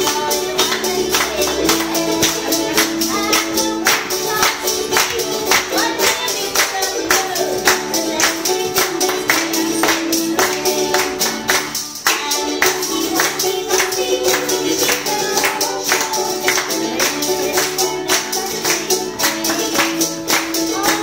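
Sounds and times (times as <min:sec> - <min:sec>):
hand rattle shaken: 0:00.0 - 0:21.0
small stringed instrument: 0:00.0 - 0:21.0
strummed acoustic guitar: 0:00.0 - 0:21.0.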